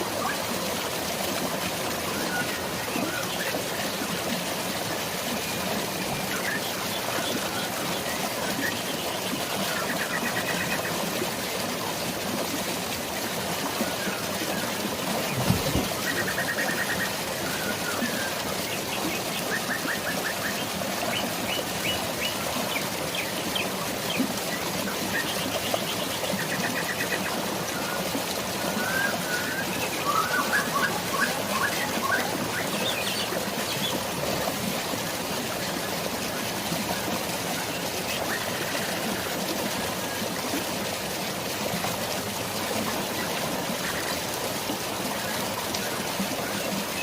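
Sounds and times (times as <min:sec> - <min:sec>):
stream water flowing: 0:00.0 - 0:47.0.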